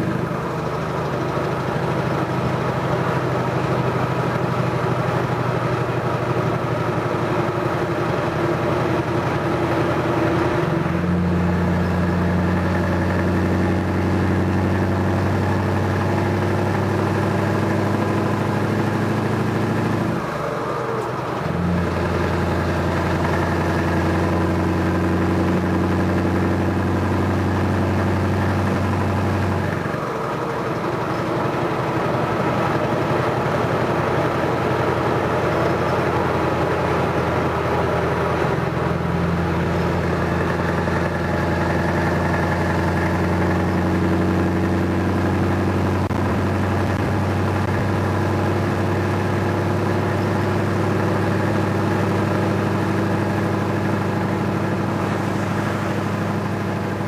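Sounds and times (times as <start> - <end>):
diesel truck engine pulling: 0.0 - 57.0.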